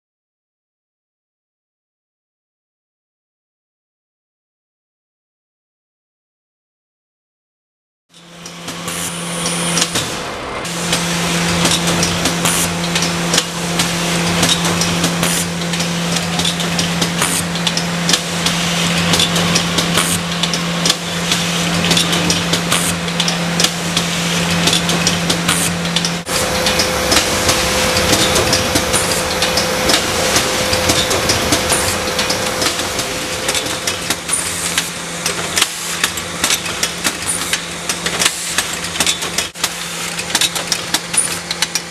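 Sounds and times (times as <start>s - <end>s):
machine motor hum: 8.2s - 41.8s.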